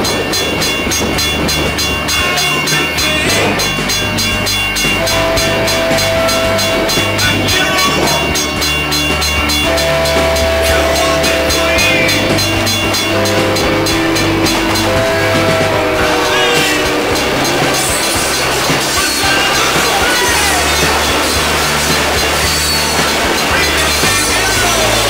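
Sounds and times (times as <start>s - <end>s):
background music with steady beat: 0.0s - 25.0s.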